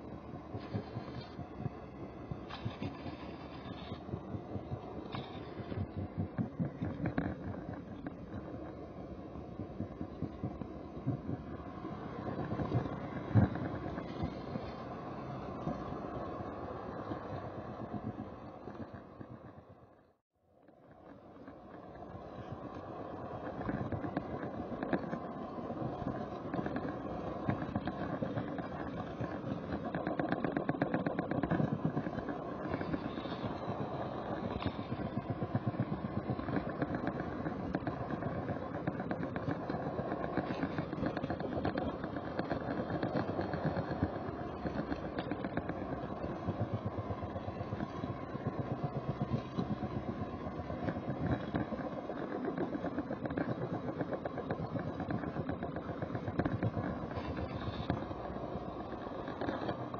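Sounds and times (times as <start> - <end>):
small electric motor and wheels: 0.0 - 19.9, 20.7 - 59.9.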